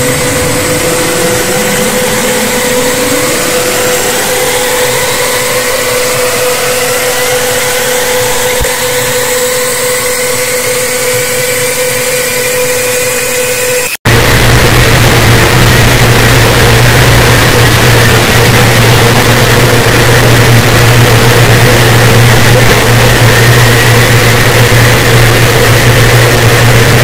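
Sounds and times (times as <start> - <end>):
tones sweeping upward: 0.0 - 25.5
distorted electronic drone: 0.0 - 27.0.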